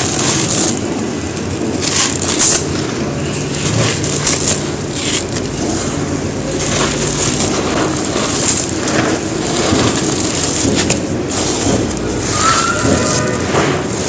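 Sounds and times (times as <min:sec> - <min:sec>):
concrete crumbling and crunching: 0:01.6 - 0:14.0.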